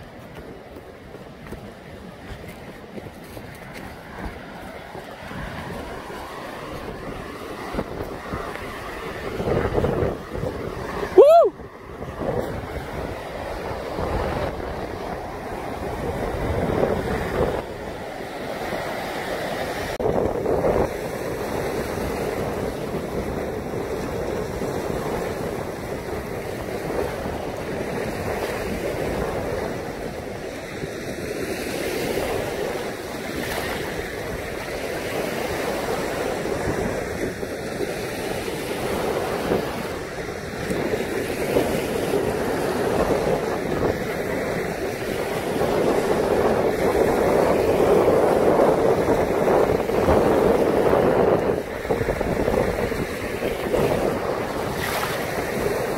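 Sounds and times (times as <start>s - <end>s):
surf breaking on the shore: 0.0s - 55.9s
wind buffeting the microphone: 0.0s - 55.9s.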